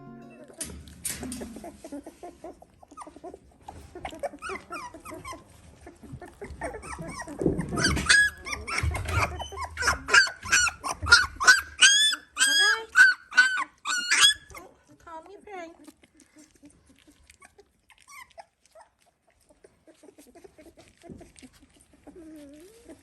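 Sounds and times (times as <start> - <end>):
puppies squealing and whimpering: 0.4 - 15.0, 15.8 - 23.0.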